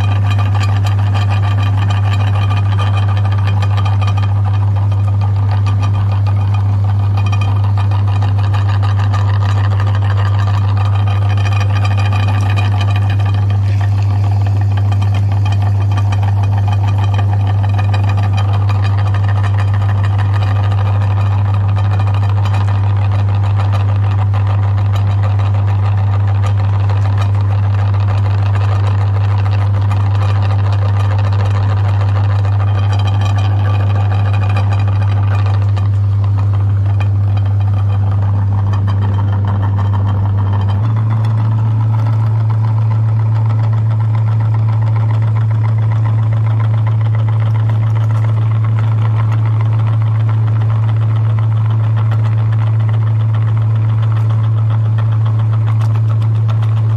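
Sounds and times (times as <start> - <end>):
meat grinder motor humming: 0.0 - 56.9.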